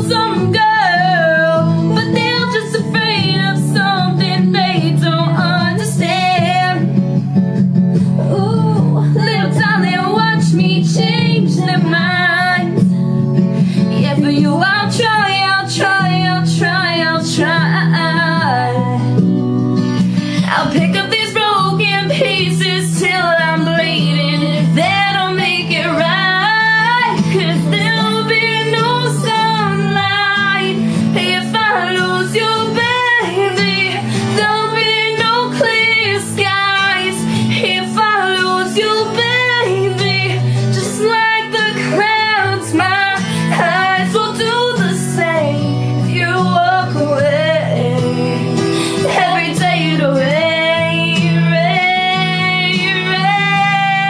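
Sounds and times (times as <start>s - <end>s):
guitar: 0.0s - 54.0s.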